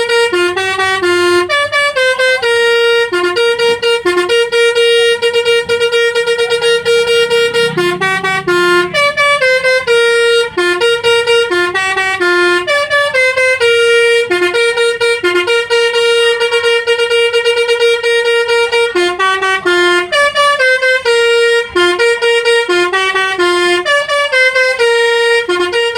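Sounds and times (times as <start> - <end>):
multi-tone bus horn tune: 0.0 - 25.9.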